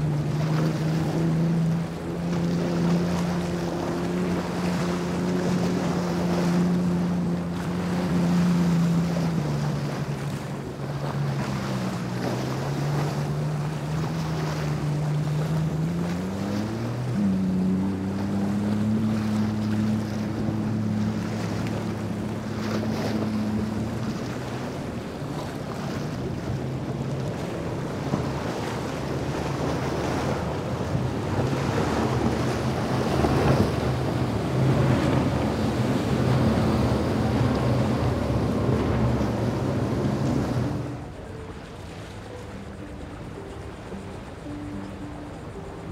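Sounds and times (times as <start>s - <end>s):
outboard engines droning: 0.0s - 45.9s
wind buffeting microphone: 0.0s - 45.9s.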